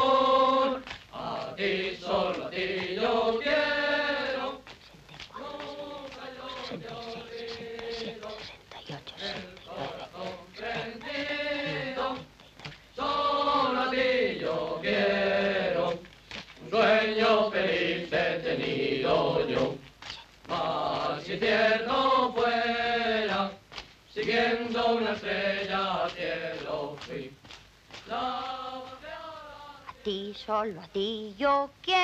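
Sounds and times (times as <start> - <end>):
group of voices singing: 0.0 - 27.4, 28.0 - 30.1.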